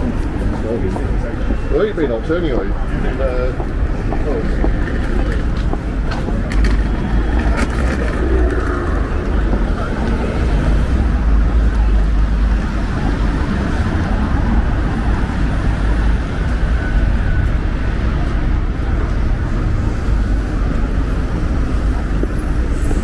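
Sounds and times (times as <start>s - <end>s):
rumble of passing vehicles: 0.0s - 23.0s.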